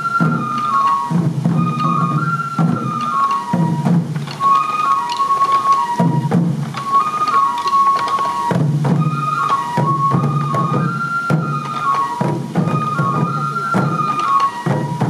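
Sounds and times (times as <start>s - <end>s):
bamboo flute melody: 0.0s - 15.0s
taiko drums beating: 0.0s - 15.0s.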